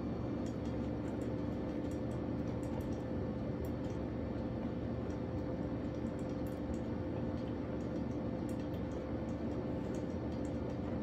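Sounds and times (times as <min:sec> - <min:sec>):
coffee maker hum and hiss: 0:00.0 - 0:11.0
faint irregular ticks: 0:00.4 - 0:11.0.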